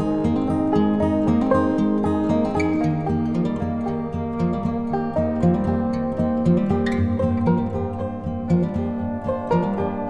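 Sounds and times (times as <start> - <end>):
gentle plucked string tune: 0.0 - 10.0.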